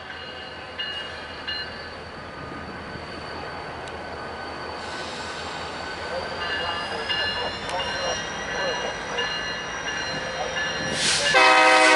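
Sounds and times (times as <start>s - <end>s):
locomotive and freight cars rumbling: 0.0s - 11.9s
high wheel squeal: 0.5s - 11.6s.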